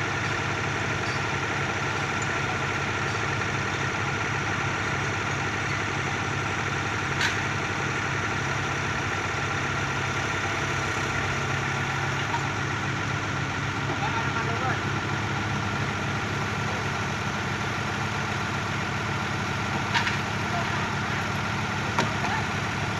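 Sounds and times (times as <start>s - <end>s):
small diesel engine running: 0.0s - 22.9s.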